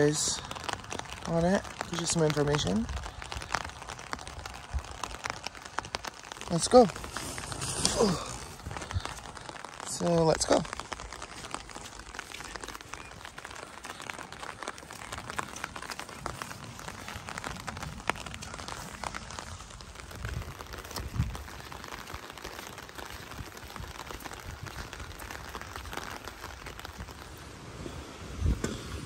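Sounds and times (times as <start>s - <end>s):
footsteps through wet grass: 0.0s - 28.0s.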